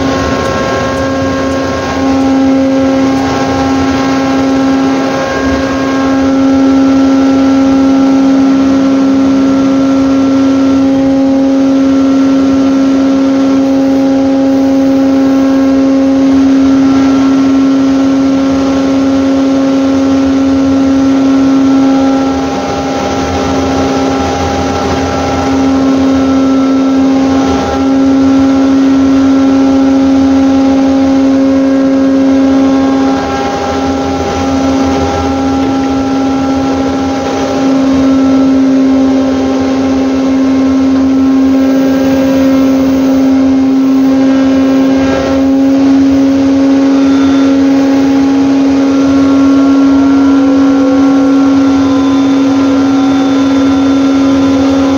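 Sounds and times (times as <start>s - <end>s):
mooring winch humming: 0.0s - 54.9s.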